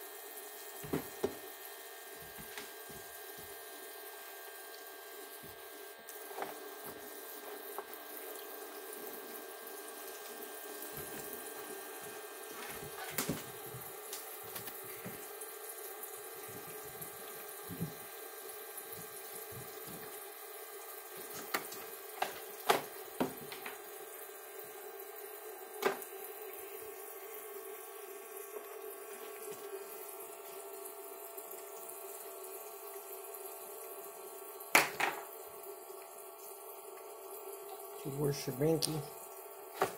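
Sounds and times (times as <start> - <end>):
water running from faucet: 0.0 - 39.9.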